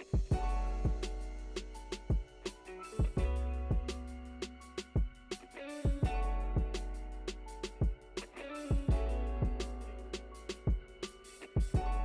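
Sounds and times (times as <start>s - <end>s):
music with steady beat and bass: 0.0s - 12.0s.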